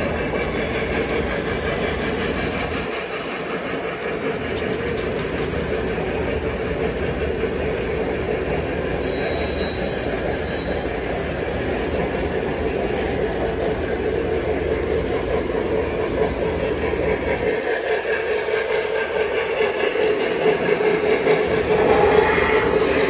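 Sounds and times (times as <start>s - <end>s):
model train rumbling on track: 0.0s - 23.0s.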